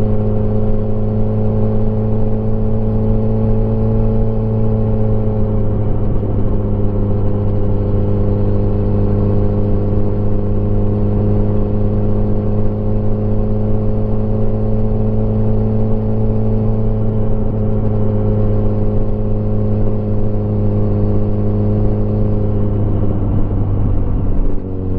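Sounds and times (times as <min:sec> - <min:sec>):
motorcycle engine cruising: 0:00.0 - 0:24.9.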